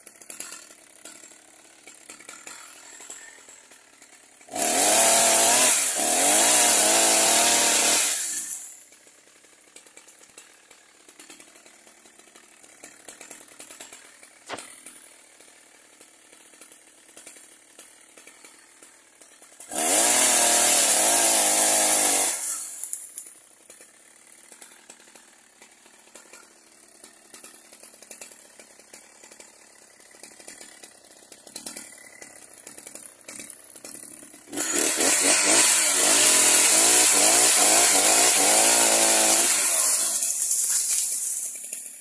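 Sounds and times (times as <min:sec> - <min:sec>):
chainsaw idling and cutting: 0:00.0 - 0:42.0.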